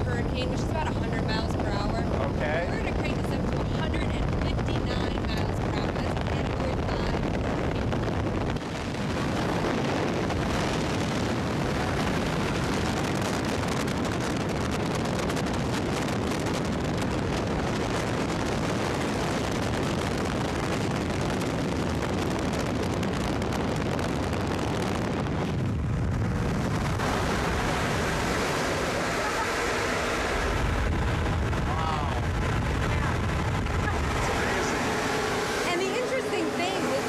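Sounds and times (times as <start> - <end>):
strong wind rushing: 0.0 - 37.0
wind buffeting microphone: 0.0 - 37.0.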